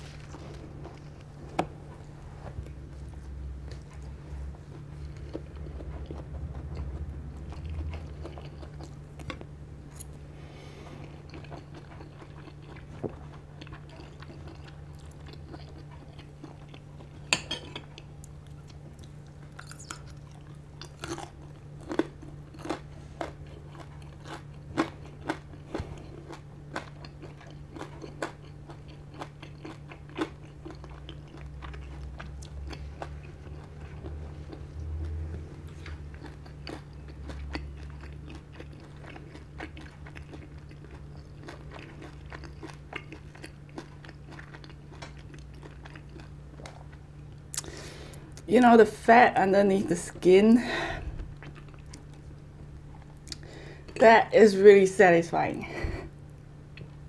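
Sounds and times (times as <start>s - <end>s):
chewing with sharp crunches: 0.0s - 48.5s, 51.0s - 54.0s.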